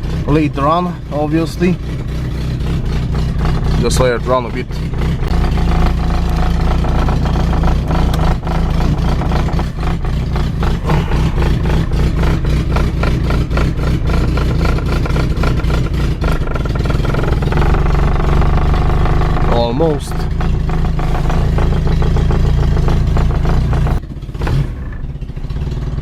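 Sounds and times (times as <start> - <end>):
car engine idling unevenly: 0.0 - 26.0.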